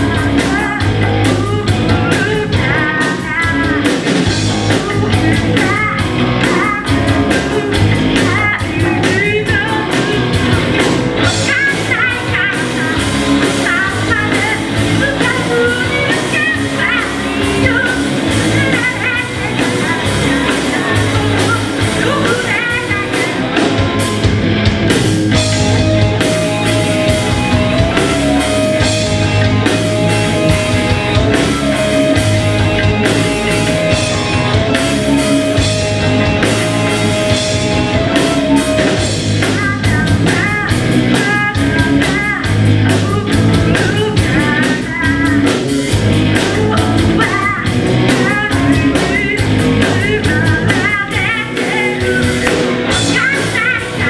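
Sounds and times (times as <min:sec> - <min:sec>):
person singing: 0:00.0 - 0:24.1, 0:25.3 - 0:54.0
live rock band playing: 0:00.0 - 0:54.0.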